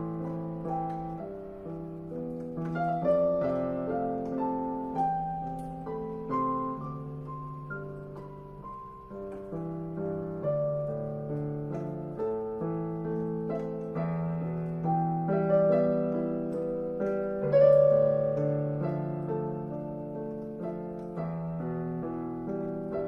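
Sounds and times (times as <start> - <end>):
solo piano melody: 0.0 - 23.0.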